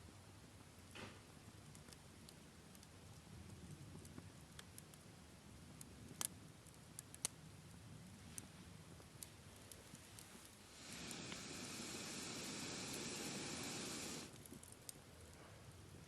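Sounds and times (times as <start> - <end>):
campfire crackling: 0.1 - 16.0
fire popping: 0.6 - 15.4.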